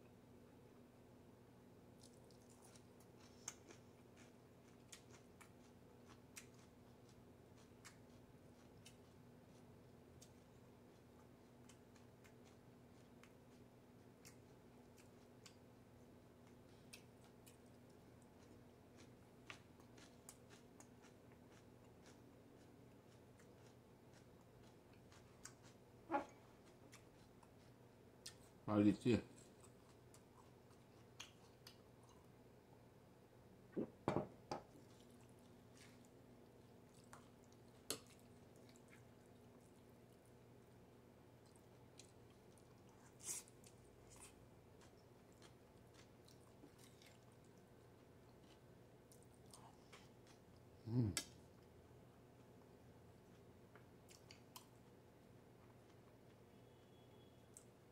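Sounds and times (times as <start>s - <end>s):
faint low hum: 0.0s - 57.9s.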